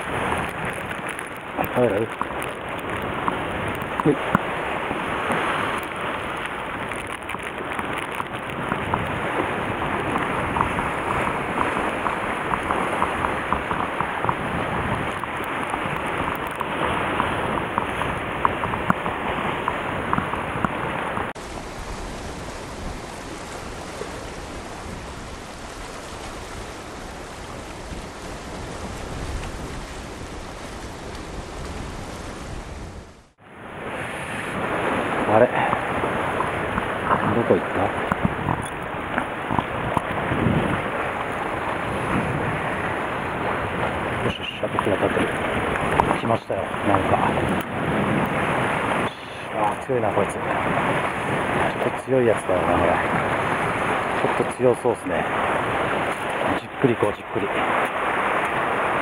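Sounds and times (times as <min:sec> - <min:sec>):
surf washing against rocks: 0:00.0 - 0:59.0
wind: 0:00.0 - 0:59.0.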